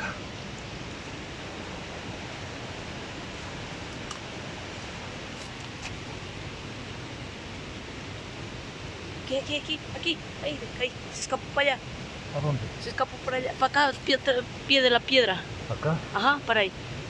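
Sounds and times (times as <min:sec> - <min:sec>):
river water over rocks: 0:00.0 - 0:15.6.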